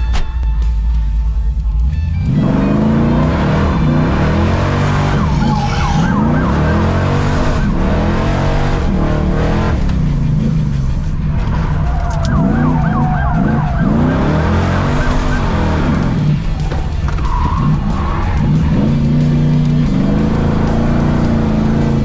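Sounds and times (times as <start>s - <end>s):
car engines revving: 0.0s - 22.0s
tires squealing: 0.0s - 22.0s.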